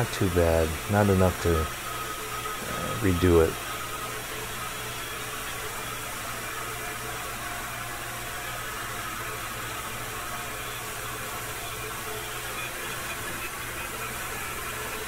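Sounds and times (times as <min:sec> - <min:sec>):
faint steady tones: 0:00.0 - 0:15.0
mill cutting metal hiss: 0:00.0 - 0:15.0.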